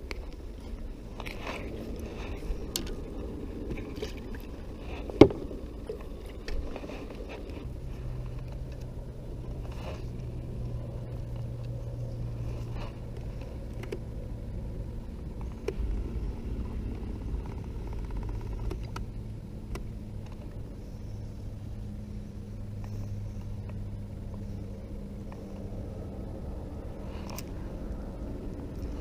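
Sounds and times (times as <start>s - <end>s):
small boat motor humming: 0.0s - 29.0s.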